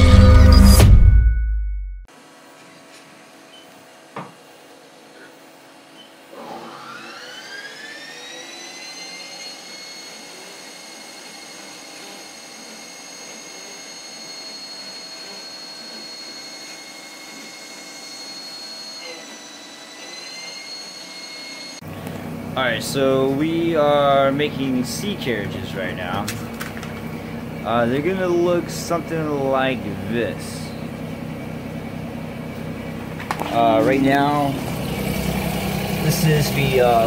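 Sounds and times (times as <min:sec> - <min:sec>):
three d printer high whine: 0:05.1 - 0:37.0.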